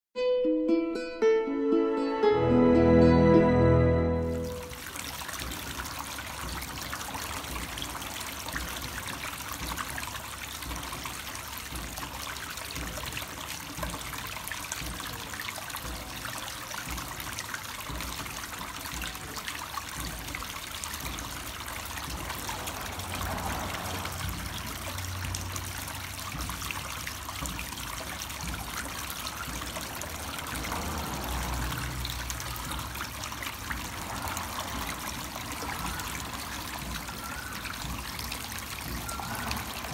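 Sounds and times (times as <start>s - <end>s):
water trickling into pond: 2.9s - 39.9s.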